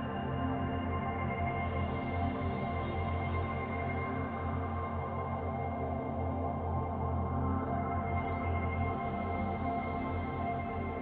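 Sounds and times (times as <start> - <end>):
soft ambient music with drone: 0.0 - 11.0.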